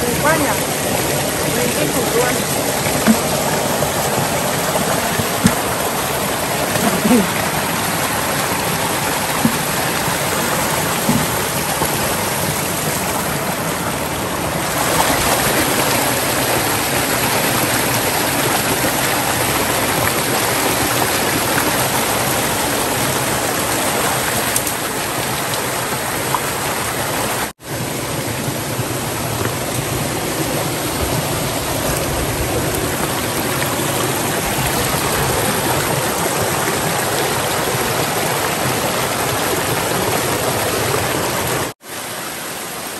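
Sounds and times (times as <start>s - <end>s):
stream rushing over boulders: 0.0s - 42.9s.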